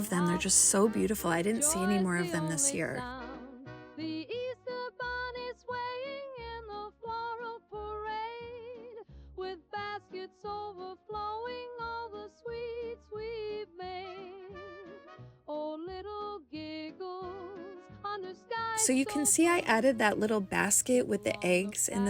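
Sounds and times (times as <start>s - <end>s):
cheerful children's song: 0.0s - 15.0s, 15.6s - 22.0s.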